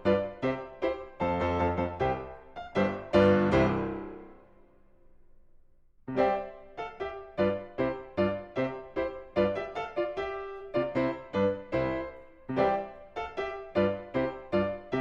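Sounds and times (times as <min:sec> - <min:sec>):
piano music: 0:00.0 - 0:04.7, 0:06.1 - 0:15.0.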